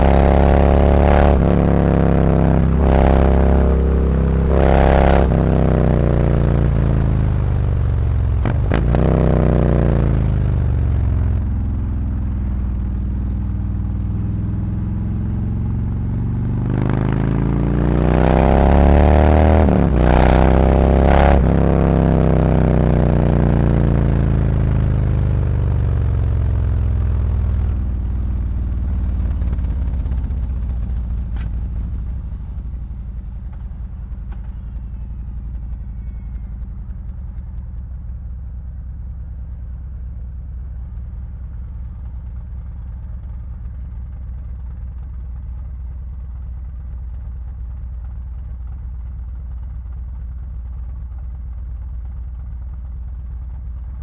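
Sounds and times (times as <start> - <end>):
motorcycle engine slowing and idling: 0.0 - 54.0.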